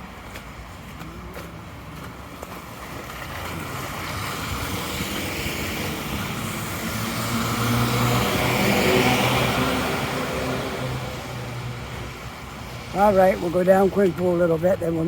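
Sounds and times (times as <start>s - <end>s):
car tyres on snowy street: 0.0s - 15.0s.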